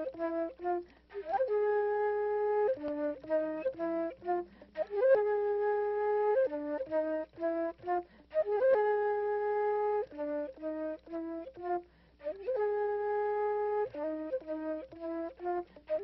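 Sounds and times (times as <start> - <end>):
solo flute melody: 0.0 - 16.0.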